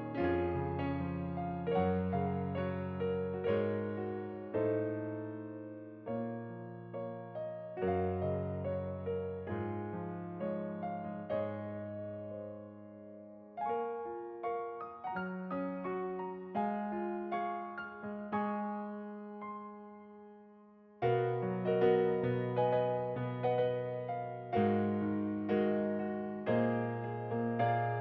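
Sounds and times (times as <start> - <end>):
slow solo piano music: 0.0 - 28.0.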